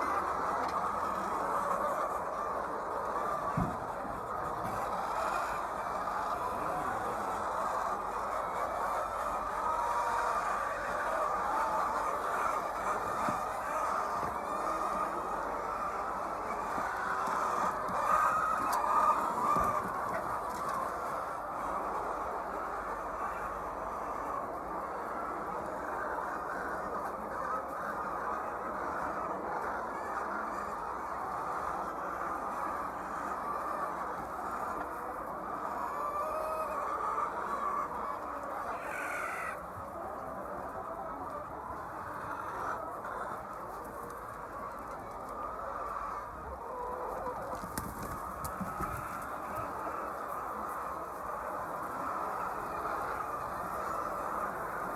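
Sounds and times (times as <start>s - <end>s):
hens clucking: 0.0s - 54.9s.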